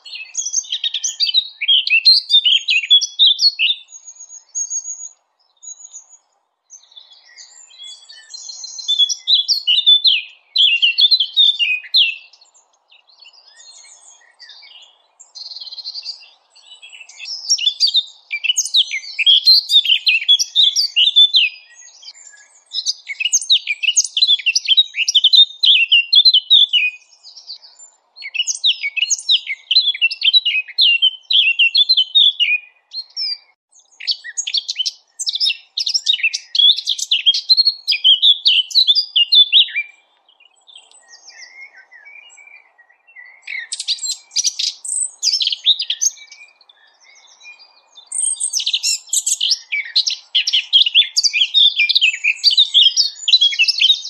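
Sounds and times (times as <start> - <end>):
small songbirds twittering: 0.0 - 54.0.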